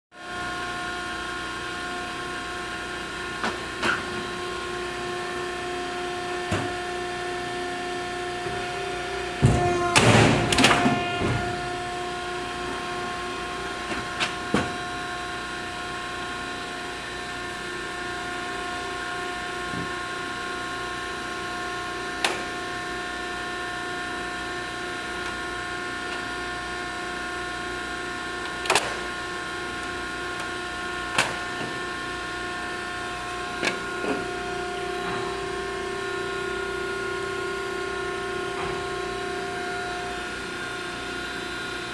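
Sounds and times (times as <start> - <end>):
die-cutting press humming: 2.0 - 41.9.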